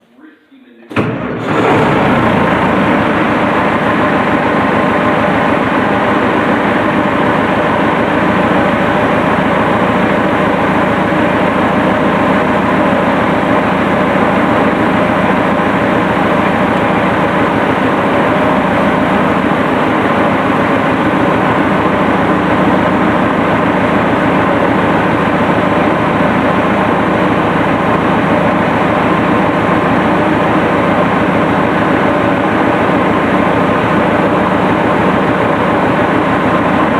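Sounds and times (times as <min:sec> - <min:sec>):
diesel tractor engine idling: 0:01.0 - 0:36.9.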